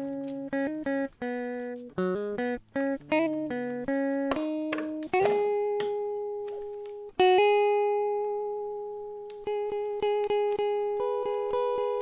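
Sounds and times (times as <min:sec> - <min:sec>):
plucked strings music: 0:00.0 - 0:12.0.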